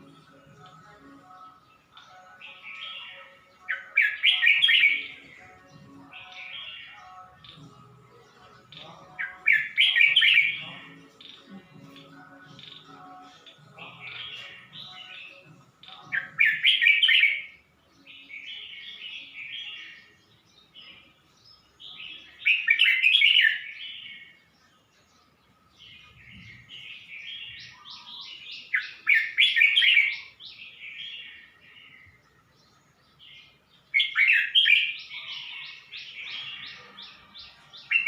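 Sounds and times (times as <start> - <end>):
bird chirping song phrases: 0.0 - 38.0.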